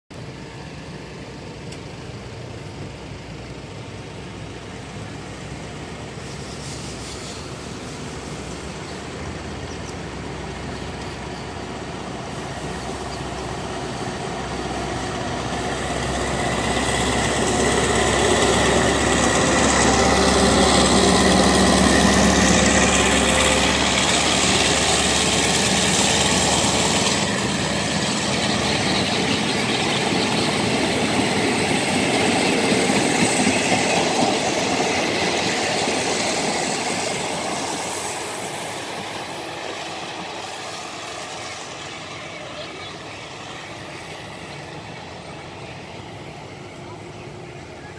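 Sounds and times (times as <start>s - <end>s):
diesel locomotive engine: 0.0s - 47.9s
train coaches rumbling past: 0.1s - 47.9s.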